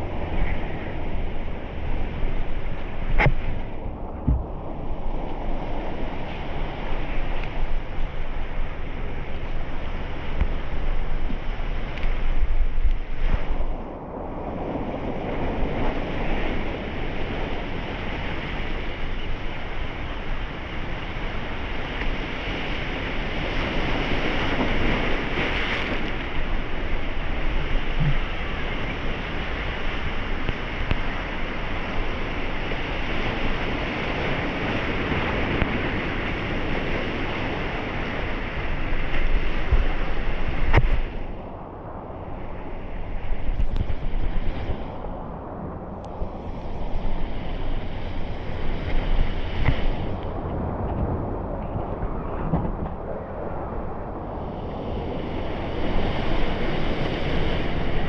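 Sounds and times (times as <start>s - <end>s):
ocean water rushing: 0.0s - 58.0s.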